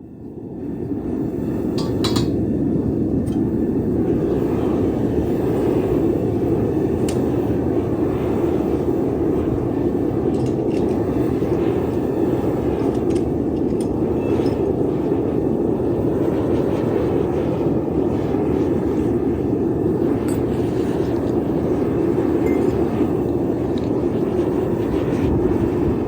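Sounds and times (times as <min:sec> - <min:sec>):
furnace burner roaring: 0:00.0 - 0:26.0.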